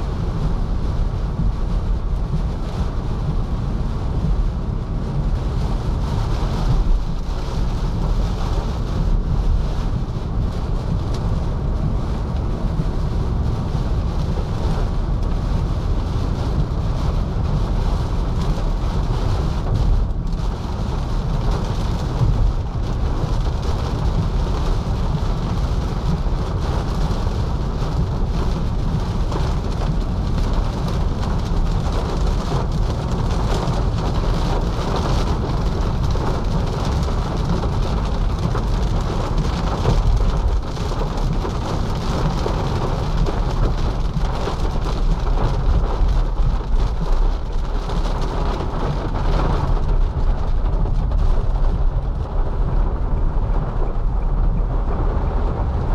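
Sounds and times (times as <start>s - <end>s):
heavy rain on car roof: 0.0s - 55.9s
steady low rumble: 0.0s - 55.9s.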